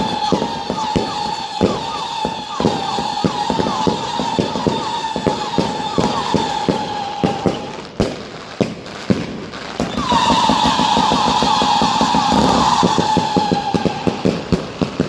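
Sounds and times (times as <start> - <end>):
high whistling tone: 0.0 - 7.7, 9.9 - 14.2
firework bangs: 0.0 - 15.0.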